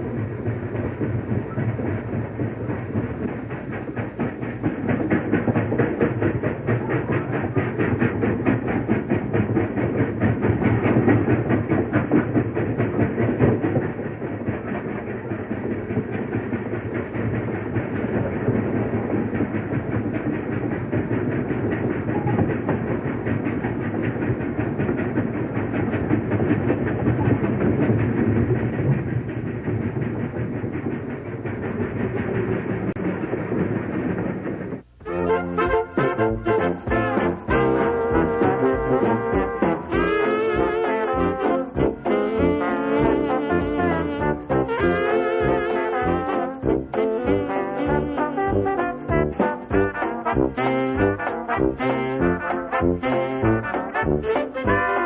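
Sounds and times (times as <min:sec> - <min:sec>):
steam locomotive passing: 0:00.0 - 0:55.0
train wheels clattering over rail joints: 0:00.0 - 0:55.0.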